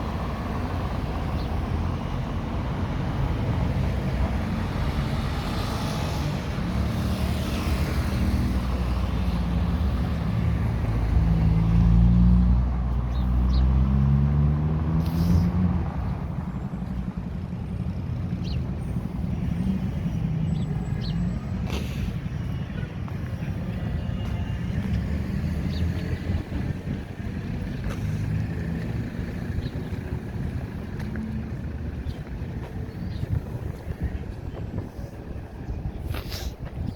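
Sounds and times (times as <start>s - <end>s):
vehicle engine passing: 0.0s - 34.7s
traffic hum: 0.0s - 36.9s.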